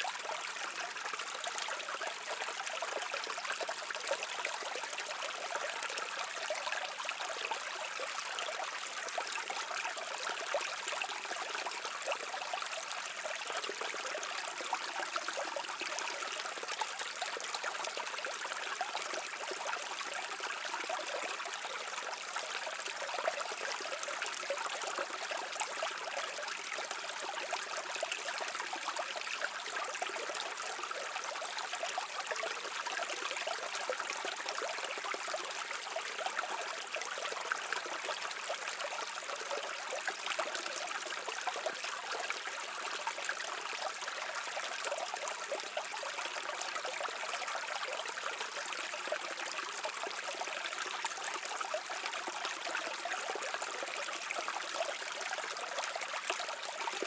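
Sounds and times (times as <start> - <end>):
brook babbling over stones: 0.0 - 57.0.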